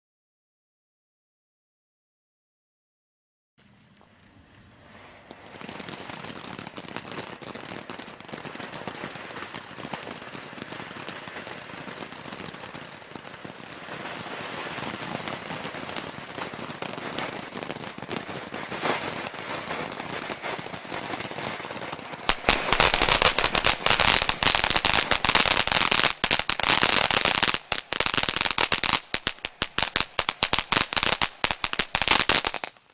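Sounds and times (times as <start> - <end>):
firework dense crackling: 4.0 - 32.9
firework sparks hissing: 4.3 - 32.9.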